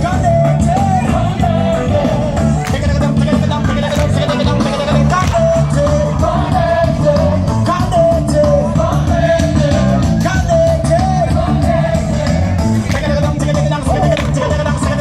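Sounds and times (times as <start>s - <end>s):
live band music with singing: 0.0s - 15.0s.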